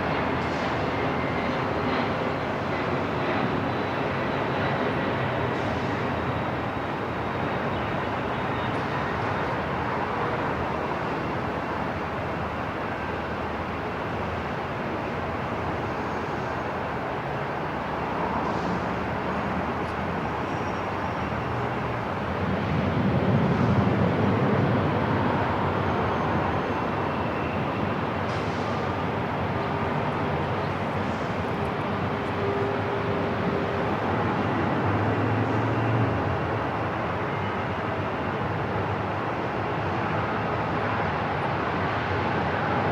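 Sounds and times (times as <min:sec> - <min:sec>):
rush of background noise: 0:00.0 - 0:42.9.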